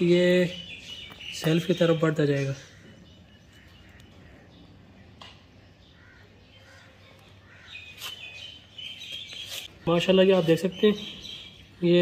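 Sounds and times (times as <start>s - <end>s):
lovebird chirping: 0.0s - 12.0s.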